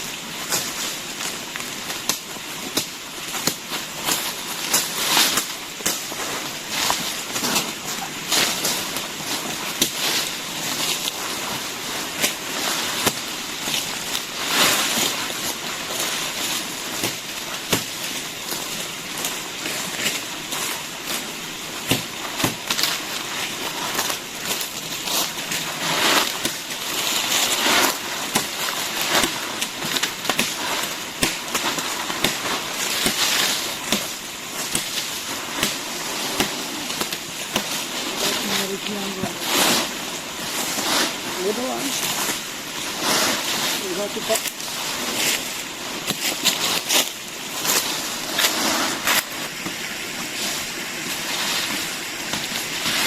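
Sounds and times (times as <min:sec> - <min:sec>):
creek water splashing: 0:00.0 - 0:53.0.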